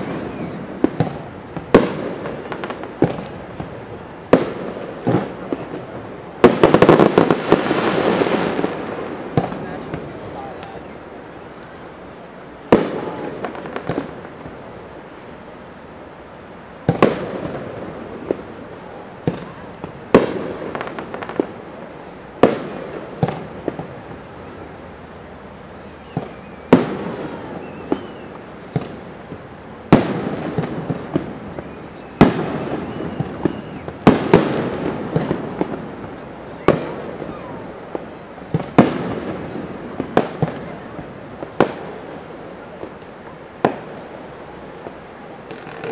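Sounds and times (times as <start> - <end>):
fireworks popping: 0.0 - 11.9, 12.6 - 15.2, 16.8 - 18.6, 19.2 - 24.8, 25.7 - 45.9
fireworks booming: 0.0 - 15.5, 16.8 - 45.9.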